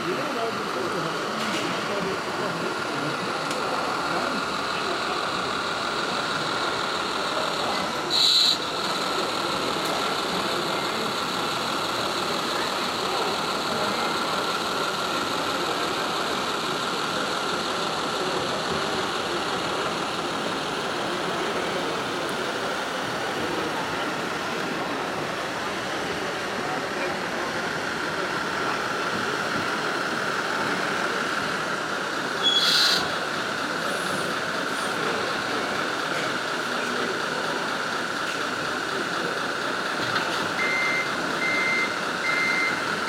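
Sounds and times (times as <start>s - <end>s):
exhibition hall din: 0.0s - 43.0s
model truck engine sound: 0.0s - 43.0s.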